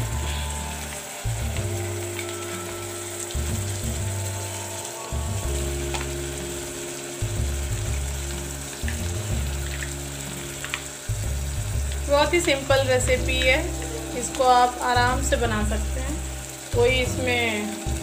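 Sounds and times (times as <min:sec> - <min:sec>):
background music with low bass: 0:00.0 - 0:18.0
onions sizzling in hot oil: 0:00.0 - 0:18.0.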